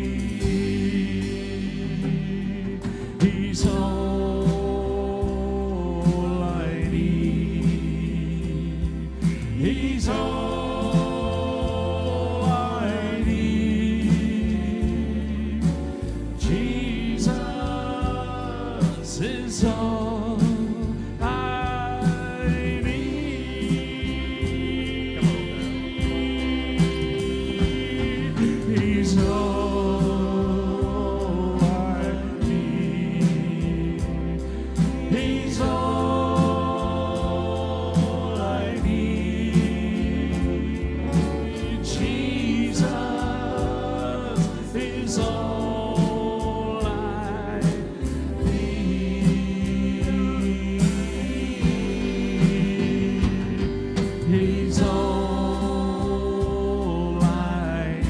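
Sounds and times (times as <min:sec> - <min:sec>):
acoustic guitar: 0:00.0 - 0:58.0
drum kit beats: 0:00.0 - 0:58.0
keyboard: 0:00.0 - 0:58.0
person singing: 0:00.0 - 0:58.0.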